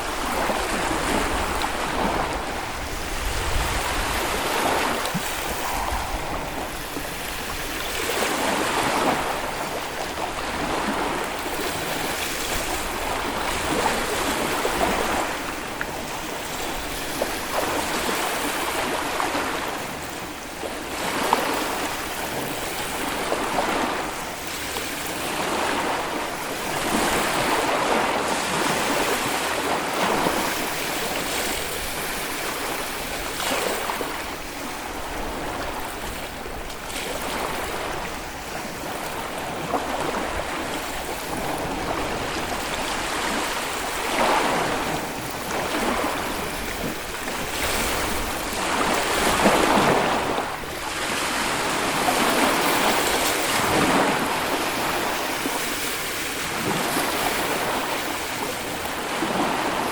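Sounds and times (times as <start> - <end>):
waves washing onto beach: 0.0 - 59.9.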